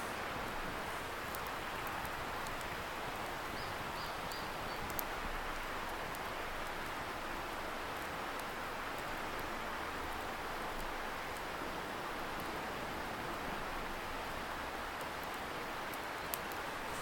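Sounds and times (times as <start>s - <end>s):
campfire crackling and popping: 0.0s - 17.0s
distant river rushing: 0.0s - 17.0s.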